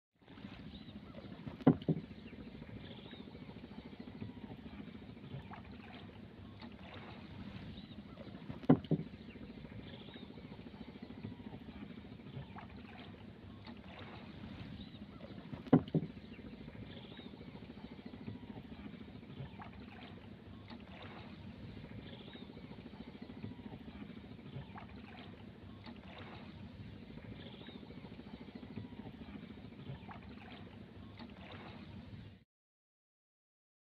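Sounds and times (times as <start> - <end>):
water washing against boat hull: 0.3 - 32.0.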